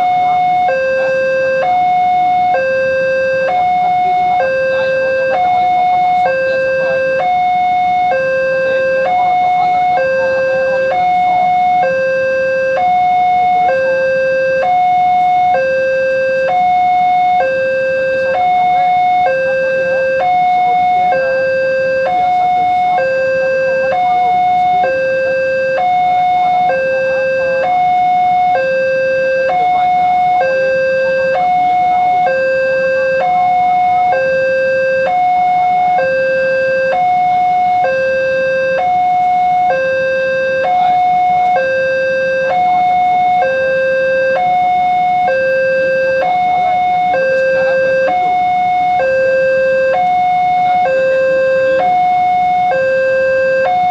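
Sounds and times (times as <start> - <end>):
two-tone level crossing alarm: 0.0 - 53.9.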